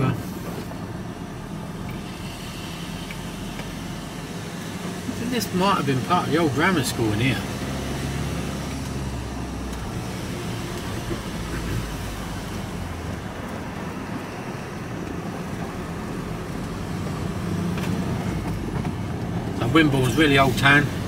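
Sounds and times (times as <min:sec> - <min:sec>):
vehicle engine and tyre hum: 0:00.0 - 0:21.0.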